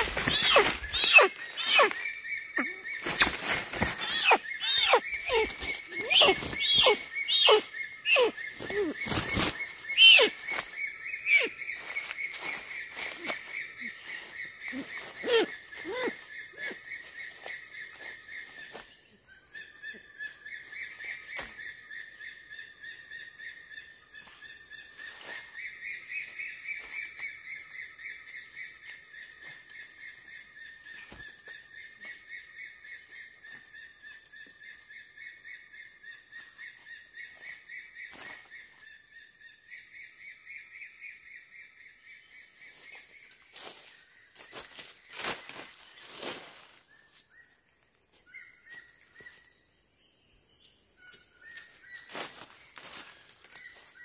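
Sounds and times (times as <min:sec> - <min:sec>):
chorus of calling wildlife: 0:00.0 - 0:47.6.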